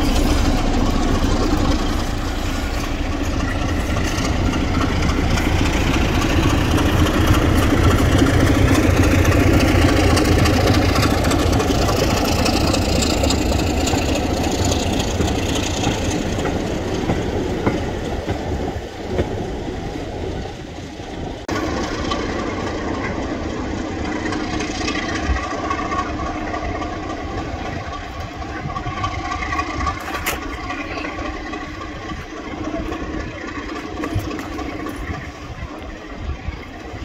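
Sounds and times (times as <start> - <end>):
diesel locomotive engine running: 0.0 - 37.0
wagons rolling on rails: 0.0 - 37.0.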